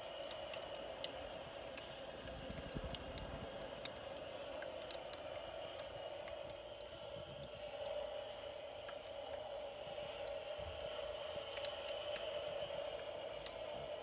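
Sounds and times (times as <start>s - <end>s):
water ticks and spatters: 0.0s - 14.0s.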